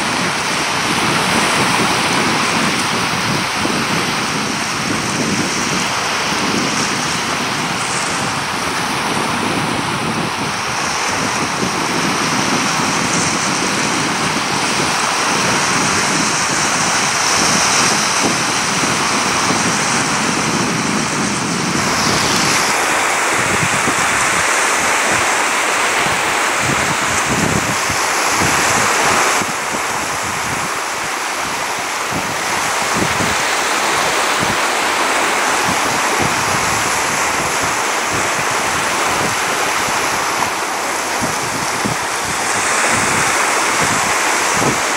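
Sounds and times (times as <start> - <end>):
surf washing onto beach: 0.0 - 44.9
wind rumbling on microphone: 0.0 - 44.9.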